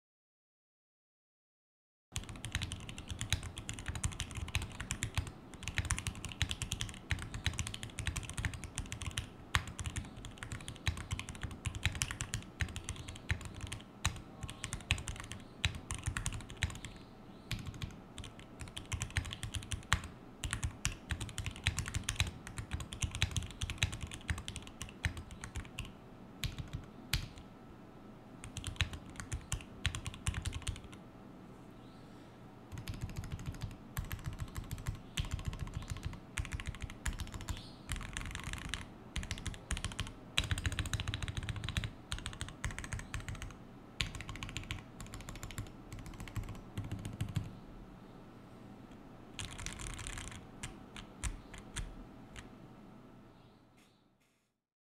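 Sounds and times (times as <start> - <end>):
mechanical keyboard typing: 2.2 - 27.4, 28.4 - 31.0, 32.7 - 47.5, 49.4 - 52.5.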